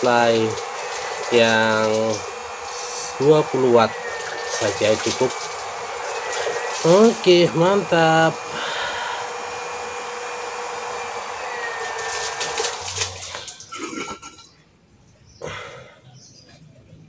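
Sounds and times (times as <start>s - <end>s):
water pump running: 0.0s - 14.6s.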